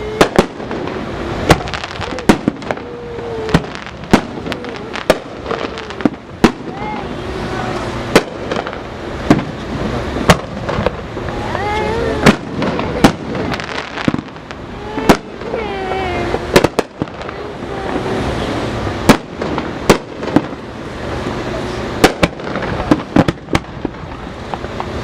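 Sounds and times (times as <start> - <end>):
continuous noisy background: 0.0 - 25.0
fireworks bangs: 0.0 - 25.0.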